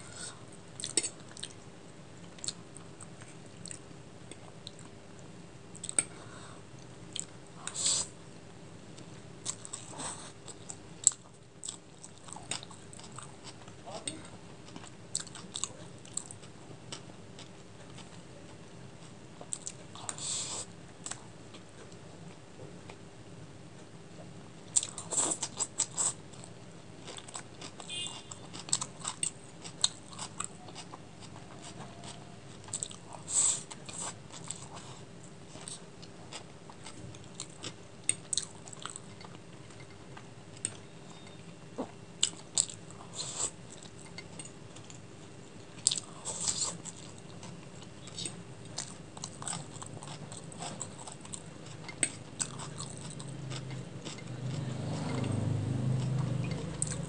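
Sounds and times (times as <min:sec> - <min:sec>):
person chewing noodles: 0:00.0 - 0:01.6, 0:02.3 - 0:05.0, 0:05.7 - 0:08.2, 0:09.0 - 0:23.0, 0:24.7 - 0:57.0
faint steady hum: 0:00.0 - 0:57.0.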